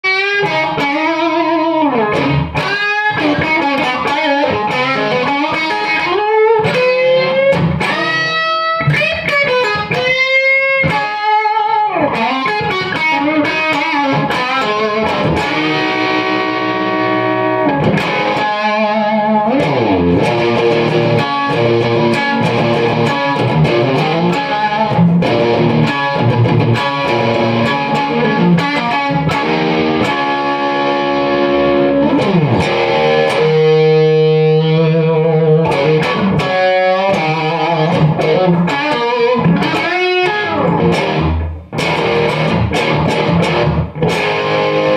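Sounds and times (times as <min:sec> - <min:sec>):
electric guitar playing: 0:00.0 - 0:44.9.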